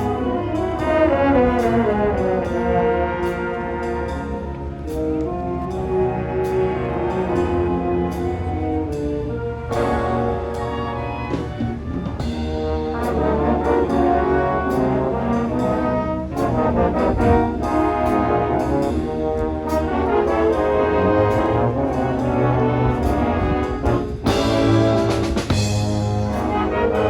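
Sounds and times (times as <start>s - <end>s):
brass chords: 0.0s - 27.0s
marching percussion: 0.0s - 27.0s.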